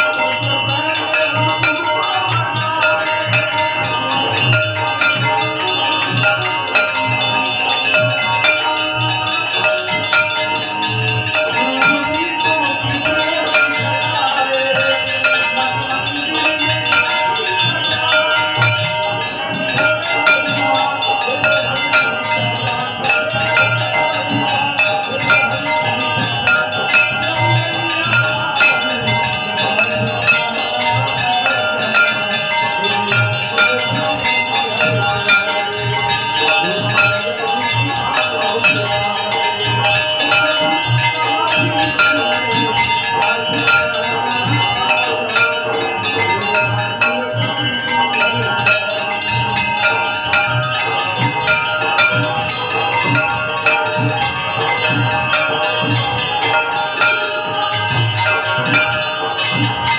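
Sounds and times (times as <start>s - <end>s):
temple bells ringing: 0.0s - 59.9s.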